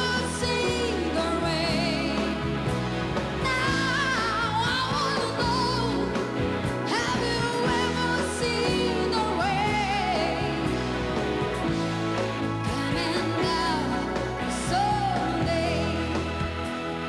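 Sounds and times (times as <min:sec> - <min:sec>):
person singing with vibrato: 0:00.0 - 0:02.6, 0:03.4 - 0:11.0, 0:12.6 - 0:16.8
band accompaniment: 0:00.0 - 0:17.0.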